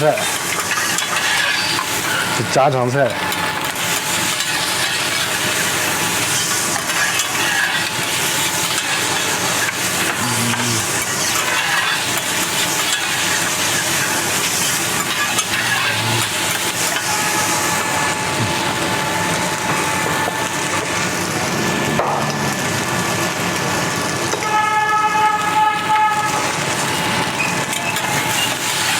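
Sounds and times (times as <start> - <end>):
rice sizzling on a griddle: 0.0 - 28.9.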